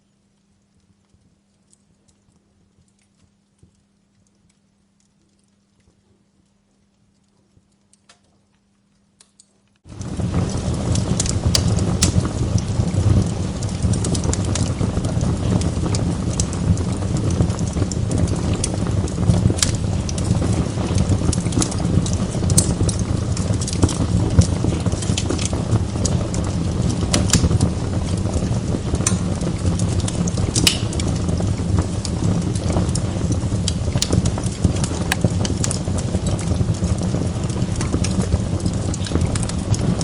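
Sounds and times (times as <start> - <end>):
fire crackles and pops: 0.0 - 40.0
wood fire burning: 0.0 - 40.0.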